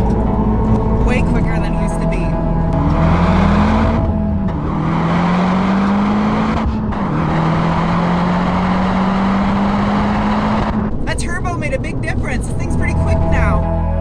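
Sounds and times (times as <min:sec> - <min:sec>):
car engine accelerating: 0:00.0 - 0:14.0
road noise: 0:00.0 - 0:14.0.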